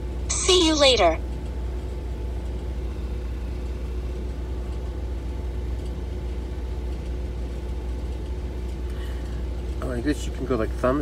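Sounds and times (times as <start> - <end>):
faint steady hum: 0.0 - 11.0
truck engine idling: 0.1 - 11.0.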